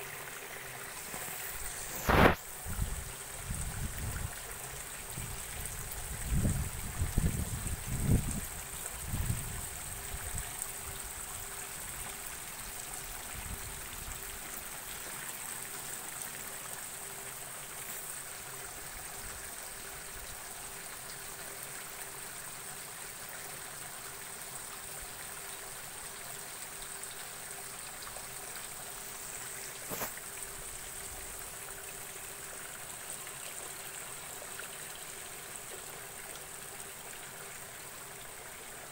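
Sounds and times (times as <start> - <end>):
water trickling into gutter: 0.0 - 38.9.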